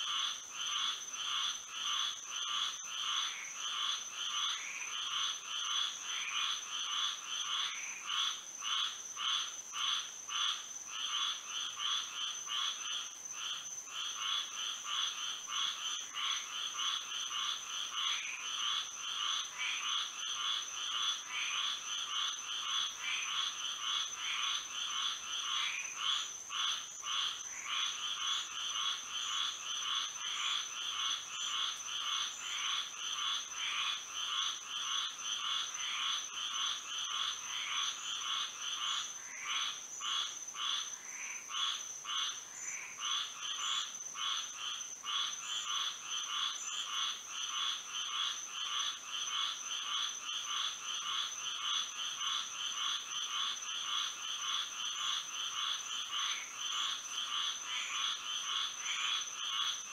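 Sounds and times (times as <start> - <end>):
chorus of frogs calling: 0.0 - 59.9.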